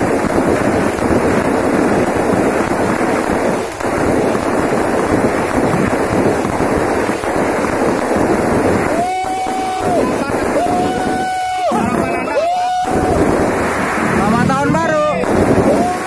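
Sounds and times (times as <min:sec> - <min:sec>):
fireworks bursts and crackles: 0:00.0 - 0:16.0.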